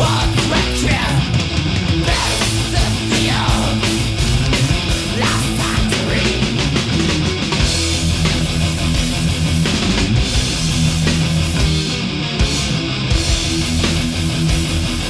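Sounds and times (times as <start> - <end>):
distorted electric guitars: 0.0 - 15.0
driving drumbeat: 0.0 - 15.0.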